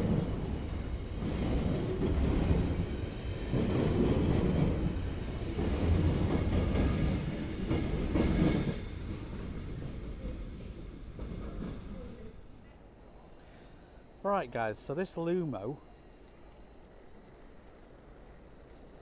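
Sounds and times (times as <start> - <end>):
train rumbling on tracks: 0.0 - 19.0.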